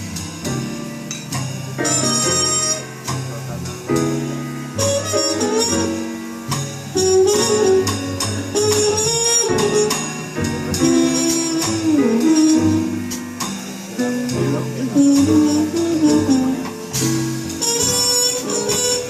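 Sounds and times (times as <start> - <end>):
bass: 0.0 - 19.0
jazz melody line: 0.0 - 19.0.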